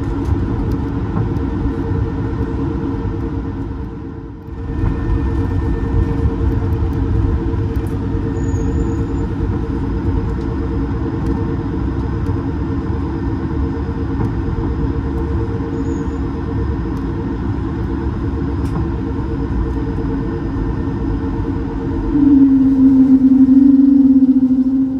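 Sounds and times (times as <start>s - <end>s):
aircraft cabin engine rumble: 0.0s - 24.9s.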